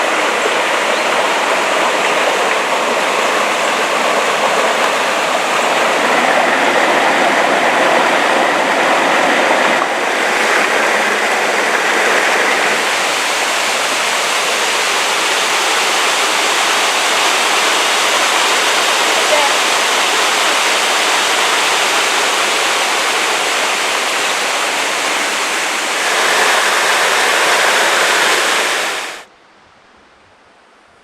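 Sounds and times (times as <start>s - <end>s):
waterfall pouring into pool: 0.0s - 29.3s.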